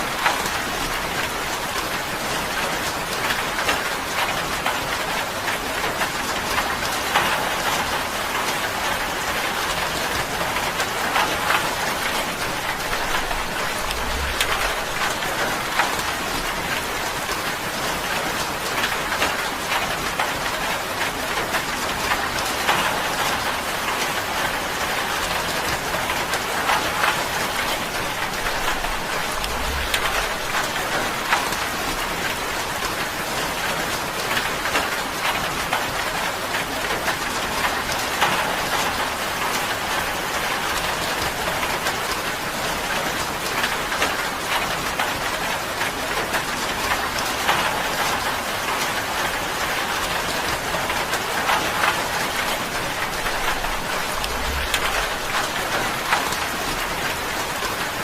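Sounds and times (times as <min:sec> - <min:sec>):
rain drumming on a tin roof: 0:00.0 - 0:58.0.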